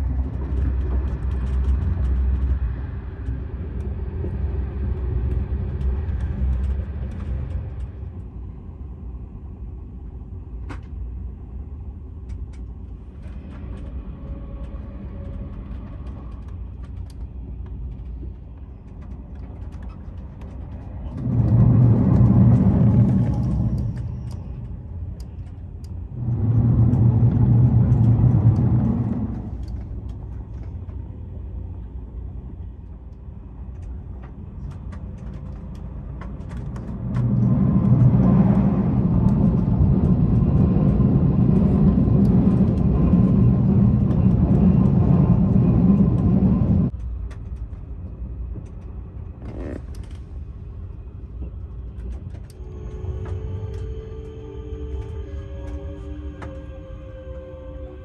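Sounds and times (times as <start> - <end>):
train rumble inside coach: 0.0 - 58.0.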